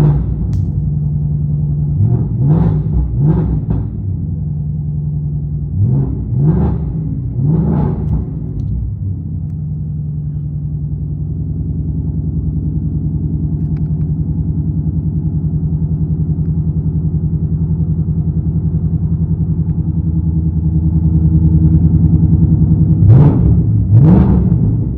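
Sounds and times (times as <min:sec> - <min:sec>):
car engine idling: 0:03.8 - 0:24.9.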